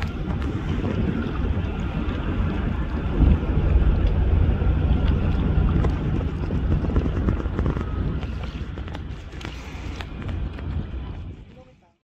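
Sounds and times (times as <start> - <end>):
steady low hum: 0.0 - 11.9
wind rumbling on microphone: 0.0 - 12.0.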